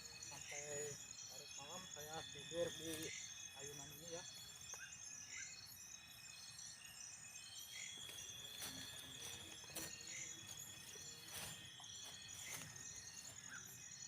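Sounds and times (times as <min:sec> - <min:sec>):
insects chirping in pulses: 0:00.0 - 0:14.0.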